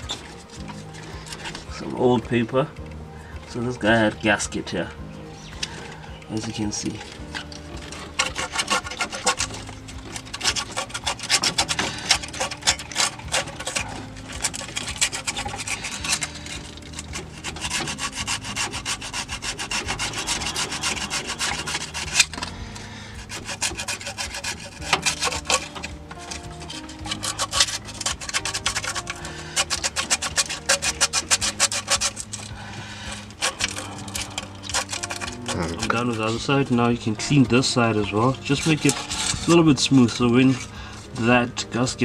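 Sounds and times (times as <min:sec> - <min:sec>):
sandpaper scraping metal: 0:00.0 - 0:02.0, 0:03.5 - 0:42.0.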